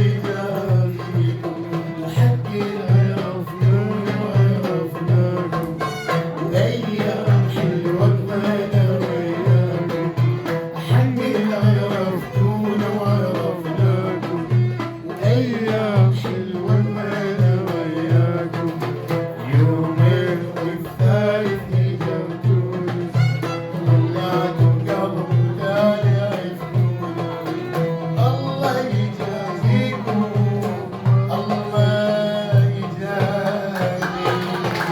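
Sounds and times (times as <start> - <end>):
steady drum beat: 0.0 - 34.9.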